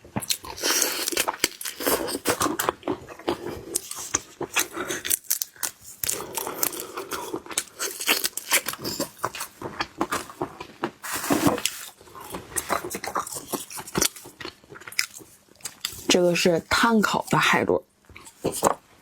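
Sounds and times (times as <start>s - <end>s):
crunching and wet chewing: 0.1s - 16.2s, 18.1s - 18.8s
crinkling: 0.2s - 17.4s, 18.1s - 18.8s.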